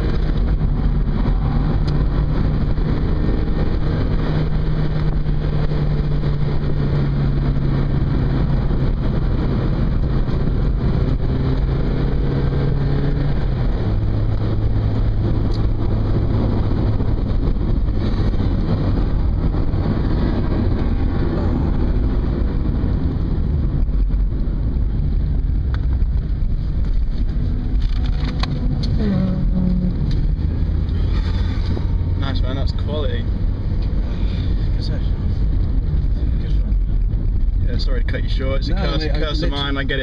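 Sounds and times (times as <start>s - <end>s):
car engine running: 0.0s - 40.0s
road noise: 0.0s - 40.0s.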